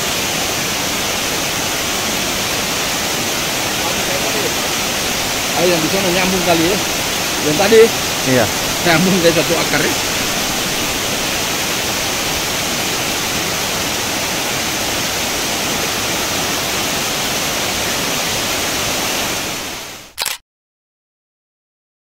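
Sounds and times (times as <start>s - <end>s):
rush of falling water: 0.0s - 20.3s.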